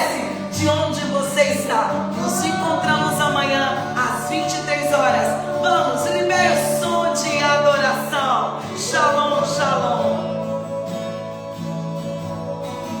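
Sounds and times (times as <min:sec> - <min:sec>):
guitar: 0:00.0 - 0:13.0
person singing: 0:00.0 - 0:13.0
sustained instrumental chords: 0:00.0 - 0:13.0.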